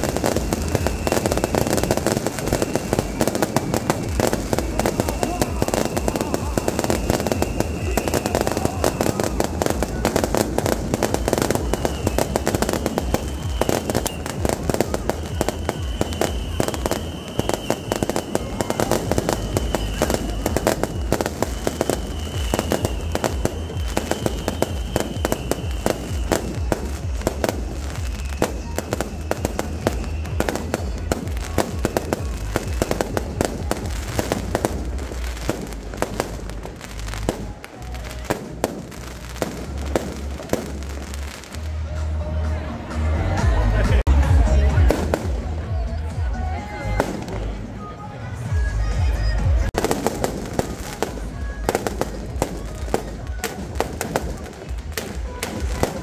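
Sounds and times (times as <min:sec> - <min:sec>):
fireworks banging and crackling: 0:00.0 - 0:56.0.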